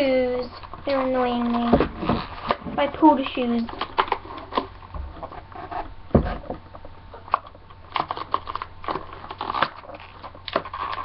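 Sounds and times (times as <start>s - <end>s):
plastic packaging rustling and clicking: 0.0s - 5.7s, 6.4s - 11.0s.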